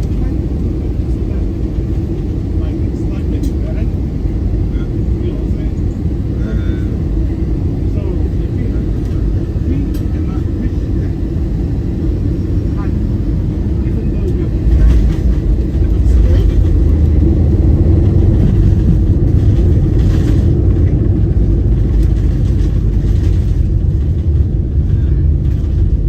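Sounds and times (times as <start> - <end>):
airliner cabin engine roar: 0.0 - 26.0.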